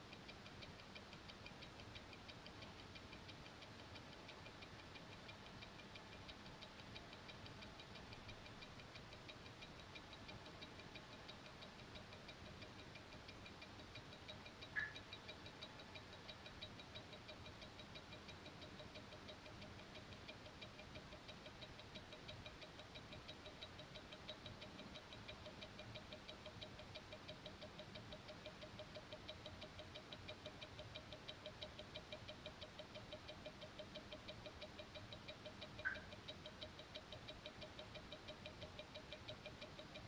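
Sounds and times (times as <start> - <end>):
watch ticking: 0.0 - 40.0.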